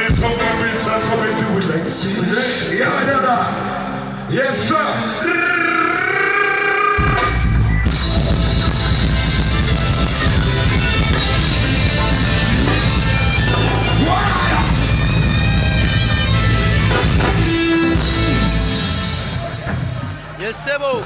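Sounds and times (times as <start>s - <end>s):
loud amplified band music: 0.0s - 21.0s.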